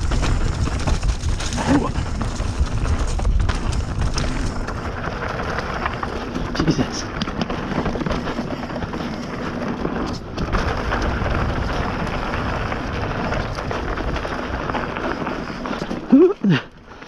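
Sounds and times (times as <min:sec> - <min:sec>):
bike frame rattling: 0:00.0 - 0:17.0
bike tyre roar over dirt: 0:00.0 - 0:17.0.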